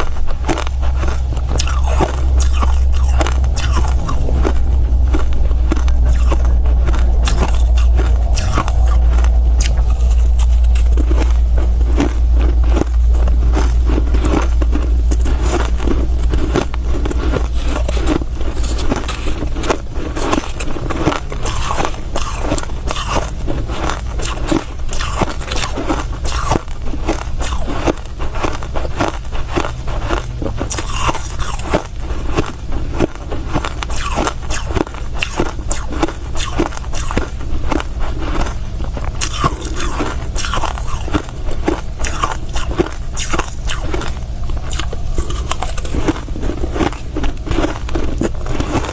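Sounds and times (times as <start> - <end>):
chewing crushed ice: 0.0 - 48.9.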